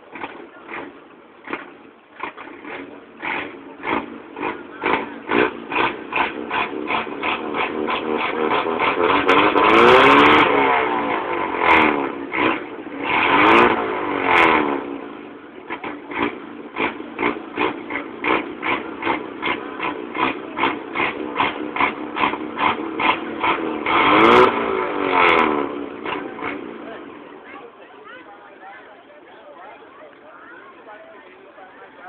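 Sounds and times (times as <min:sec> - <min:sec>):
car engine revving and idling: 0:00.0 - 0:27.7.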